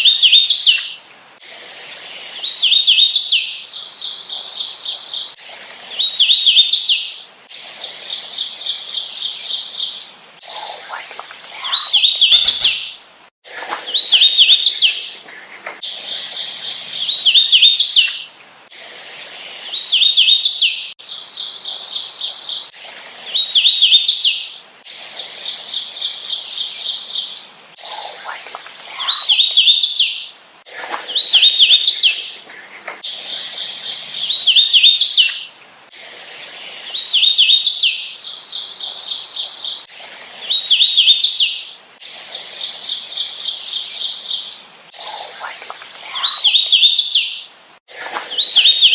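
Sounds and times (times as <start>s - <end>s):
warbler singing: 0.0s - 1.1s, 2.3s - 7.2s, 7.9s - 18.4s, 19.4s - 24.6s, 25.4s - 35.6s, 36.4s - 41.8s, 42.4s - 48.9s.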